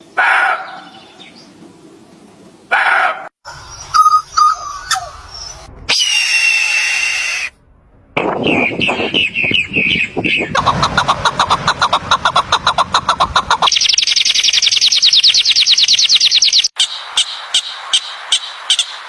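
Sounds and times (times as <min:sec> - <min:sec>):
bird and animal calls: 0:02.8 - 0:07.5, 0:08.4 - 0:19.0.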